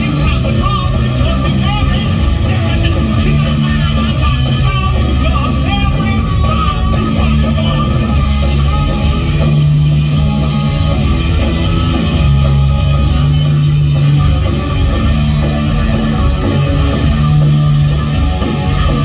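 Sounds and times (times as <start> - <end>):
bass notes: 0.0 - 19.0
electric guitar: 0.0 - 19.0.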